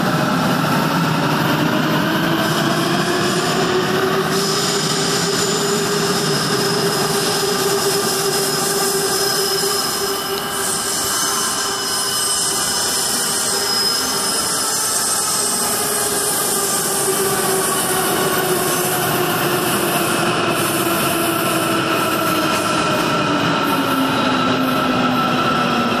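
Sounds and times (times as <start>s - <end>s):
train wheels rumbling on rail: 0.0s - 26.0s
train whining tones: 0.0s - 26.0s.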